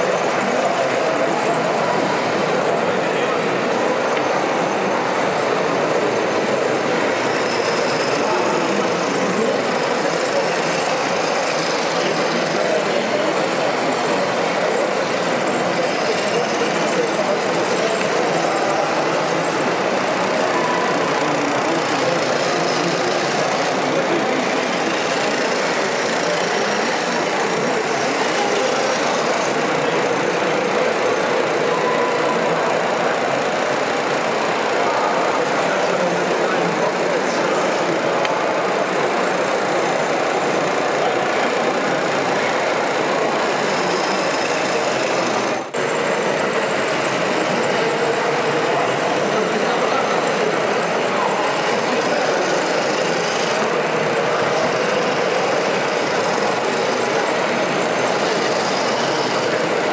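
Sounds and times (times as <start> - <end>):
crowd chatter: 0.0 - 59.9
model machinery running: 0.0 - 59.9.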